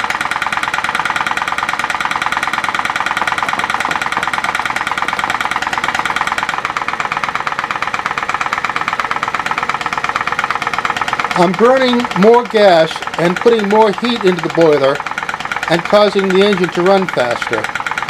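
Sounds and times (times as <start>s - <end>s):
model steam engine running: 0.0s - 18.0s.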